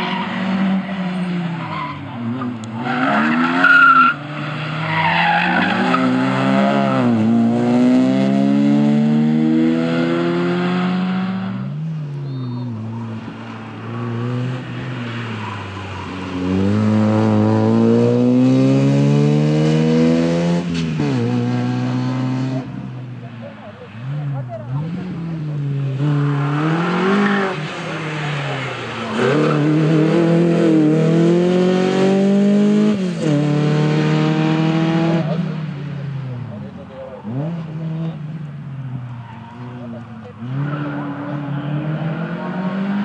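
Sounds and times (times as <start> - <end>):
rally cars revving past: 0.0 - 43.0.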